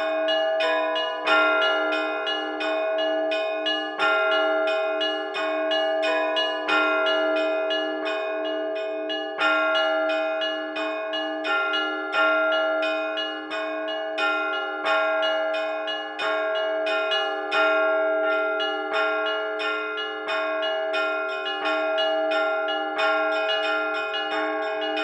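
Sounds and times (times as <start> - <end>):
heavy church bells ringing melody: 0.0 - 25.0.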